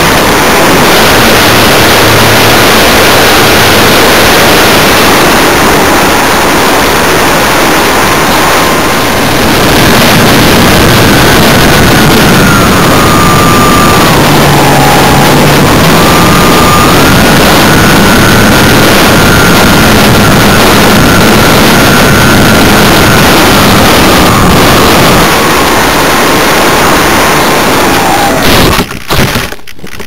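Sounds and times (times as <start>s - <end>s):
wind buffeting microphone: 0.0s - 28.9s
electric motor whine: 0.0s - 29.5s.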